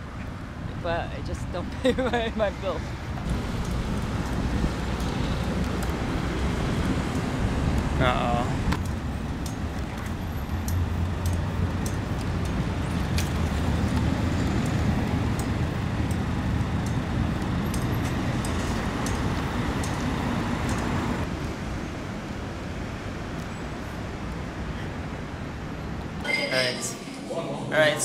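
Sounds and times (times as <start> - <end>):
road vehicle rumble: 0.0 - 28.0.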